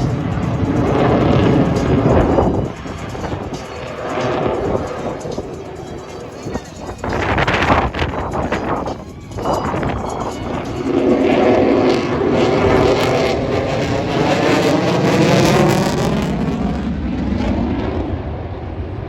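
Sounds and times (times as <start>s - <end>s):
fighter jet roar passing: 0.0s - 19.0s.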